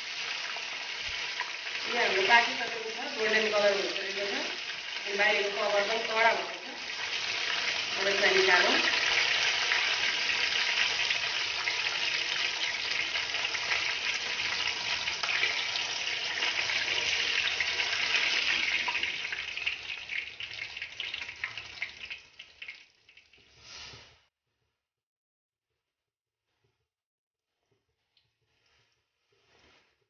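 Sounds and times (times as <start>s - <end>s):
meat deep-frying in oil: 0.0s - 24.2s.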